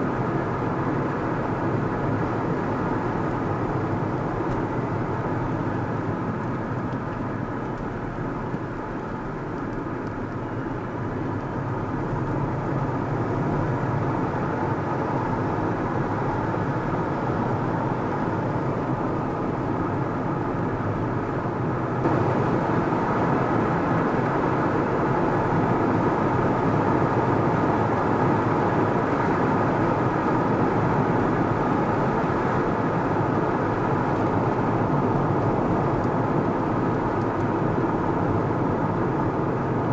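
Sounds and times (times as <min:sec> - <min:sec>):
car engine hum: 0:00.0 - 0:39.9.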